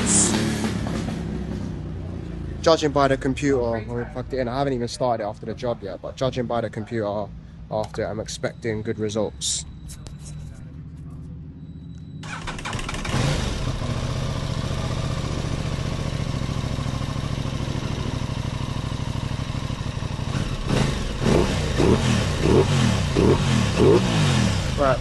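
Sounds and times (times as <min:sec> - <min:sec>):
motorcycle engine idling and revving: 0:00.0 - 0:06.3, 0:07.3 - 0:25.0.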